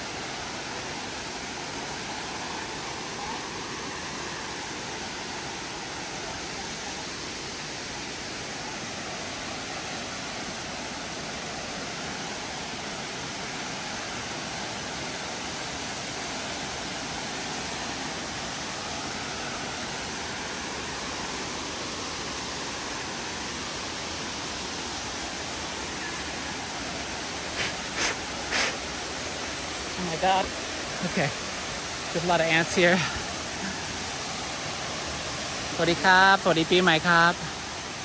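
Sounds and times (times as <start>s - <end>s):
water cascading over rock: 0.0s - 38.0s.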